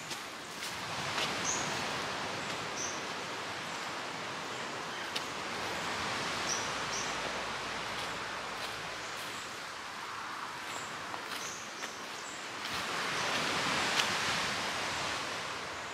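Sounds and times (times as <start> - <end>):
rushing outdoor ambience: 0.0 - 15.9.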